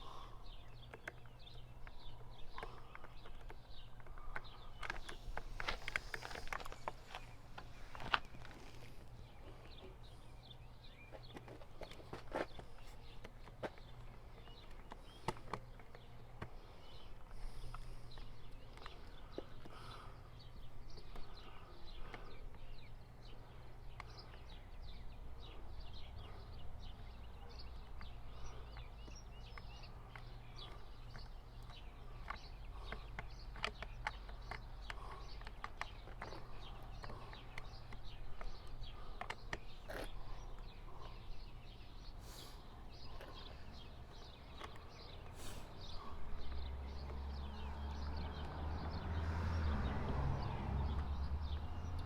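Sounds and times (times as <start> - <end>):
hand tools clicking and tapping: 0.6 - 10.1, 11.0 - 22.7, 26.9 - 41.4, 43.1 - 49.2.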